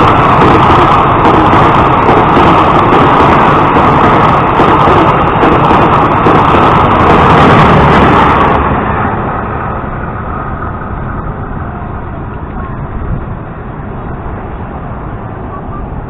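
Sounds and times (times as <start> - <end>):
quiet steady rumble: 0.0 - 16.0
train wheels rushing on rails: 0.0 - 16.0.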